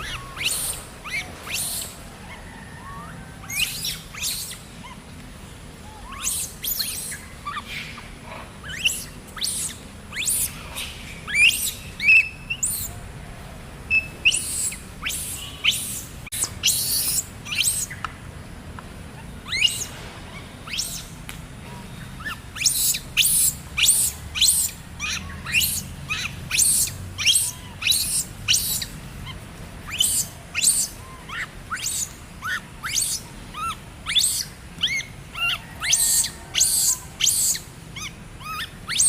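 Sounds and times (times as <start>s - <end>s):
shrill chirping calls: 0.0s - 5.1s, 5.7s - 13.1s, 13.8s - 18.5s, 19.1s - 21.2s, 21.9s - 39.0s.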